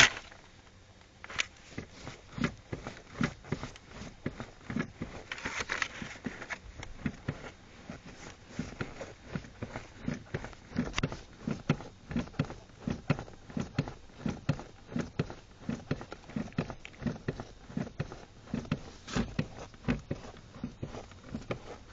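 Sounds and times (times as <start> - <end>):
accelerator pedal knocking: 1.8 - 5.3, 6.3 - 21.9.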